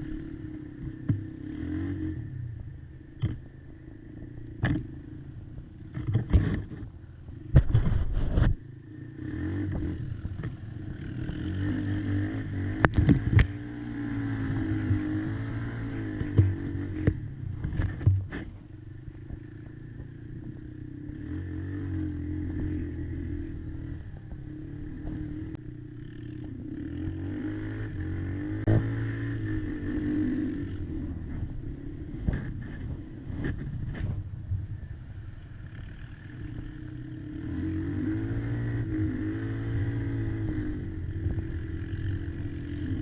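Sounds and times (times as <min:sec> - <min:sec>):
quad bike engine revving: 0:00.0 - 0:34.2, 0:35.2 - 0:43.0.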